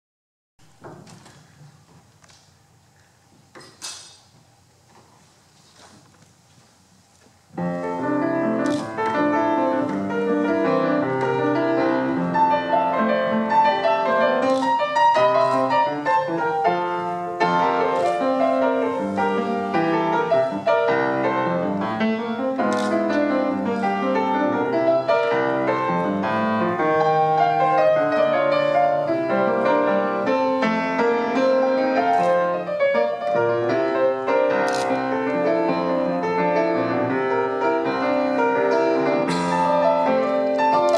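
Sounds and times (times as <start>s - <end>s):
grand piano playing folk dance: 4.5s - 40.9s.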